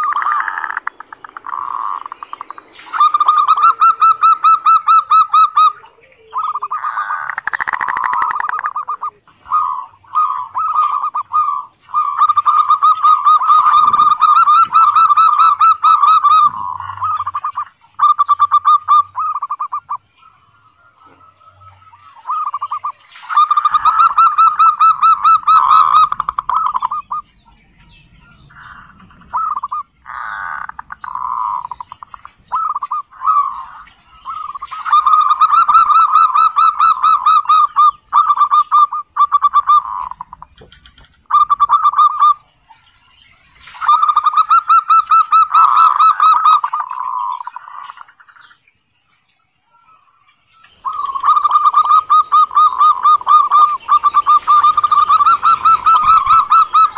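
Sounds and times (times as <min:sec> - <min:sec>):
dove rapid pulsed cooing: 0:00.0 - 0:20.0, 0:22.2 - 0:27.3, 0:28.4 - 0:42.5, 0:43.6 - 0:48.1, 0:50.8 - 0:56.9.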